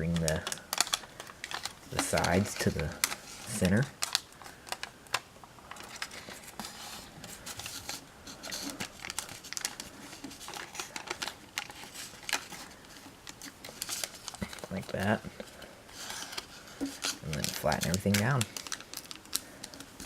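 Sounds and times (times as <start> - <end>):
foil paper crinkling: 0.0 - 20.0.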